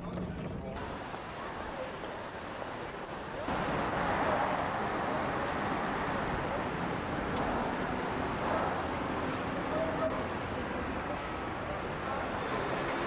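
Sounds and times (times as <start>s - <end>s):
passing traffic: 0.8s - 13.0s.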